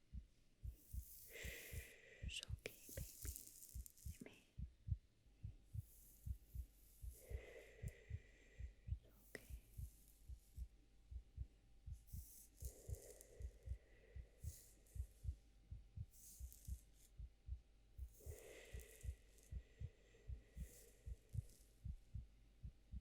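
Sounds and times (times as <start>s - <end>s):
heartbeat thuds: 0.0s - 23.0s.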